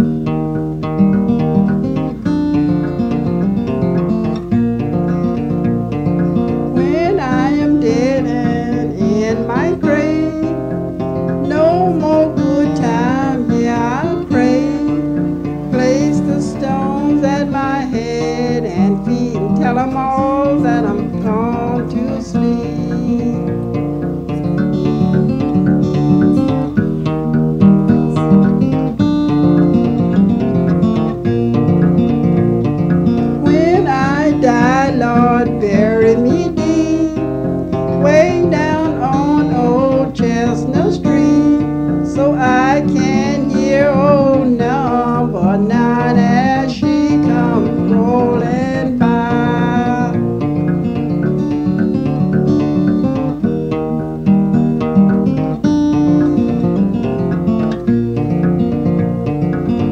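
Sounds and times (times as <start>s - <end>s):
acoustic guitar strumming: 0.0s - 59.9s
wavering melody line: 0.0s - 59.9s.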